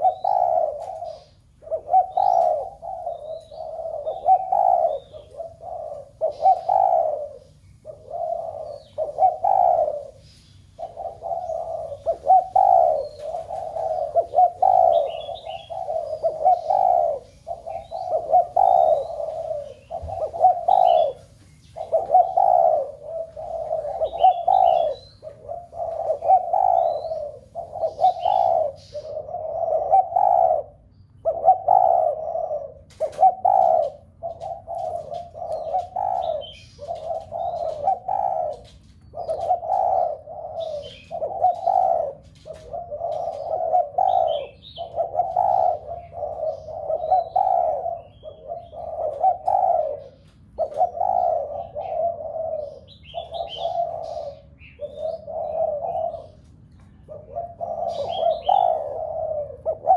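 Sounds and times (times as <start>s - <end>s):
doves cooing: 0.0s - 59.9s
small birds chirping: 0.0s - 59.9s.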